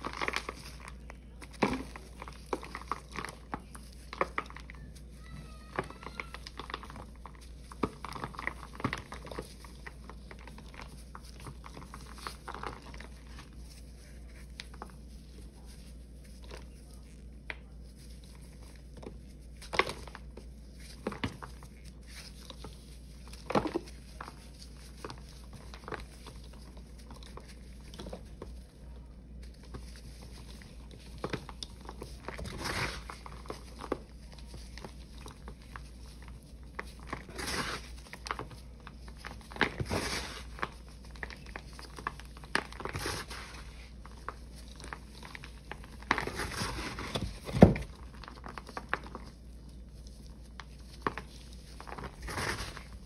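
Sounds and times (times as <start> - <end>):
paste balls crumbling: 0.0 - 53.0.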